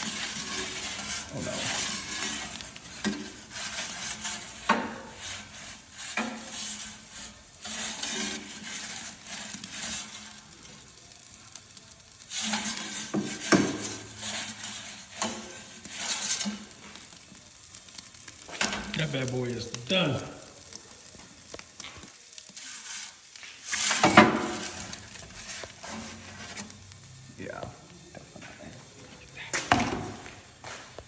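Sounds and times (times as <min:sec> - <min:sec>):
metal utensils clinking and scraping: 0:00.0 - 0:29.5.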